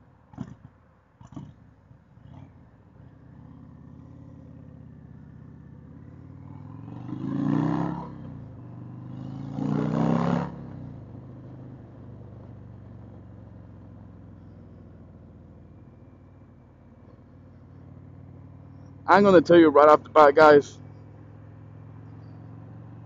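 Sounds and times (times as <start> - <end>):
motorcycle engine revving: 0.3 - 23.0.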